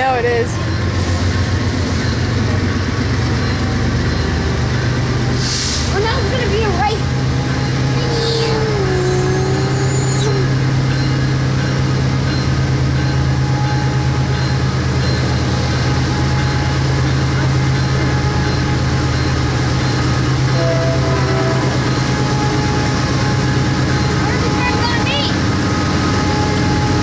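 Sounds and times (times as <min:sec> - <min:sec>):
diesel locomotive droning: 0:00.0 - 0:27.0.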